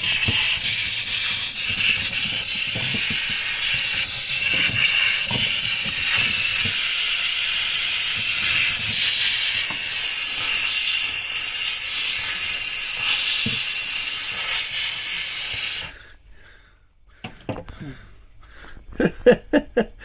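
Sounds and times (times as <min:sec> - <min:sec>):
steamer hissing: 0:00.0 - 0:16.1.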